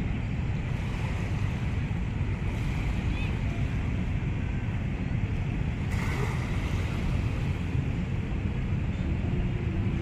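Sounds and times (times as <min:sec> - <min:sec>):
small waves lapping on sand: 0:00.0 - 0:08.8
wind buffeting microphone: 0:00.0 - 0:10.0.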